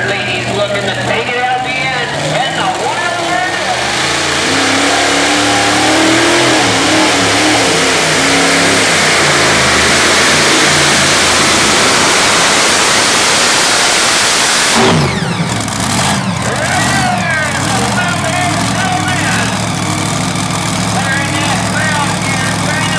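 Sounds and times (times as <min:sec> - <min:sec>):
tractor engines roaring: 0:00.0 - 0:22.9.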